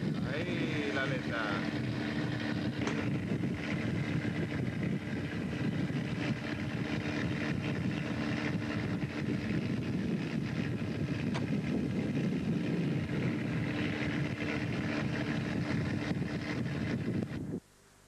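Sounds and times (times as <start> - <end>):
boat engine rumble: 0.0 - 17.6
wind buffeting microphone: 0.0 - 17.6
hum: 0.0 - 18.0.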